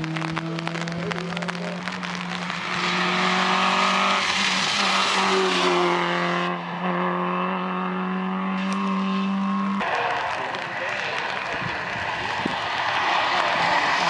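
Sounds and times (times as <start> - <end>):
rally car engine at high revs: 0.0 - 14.0.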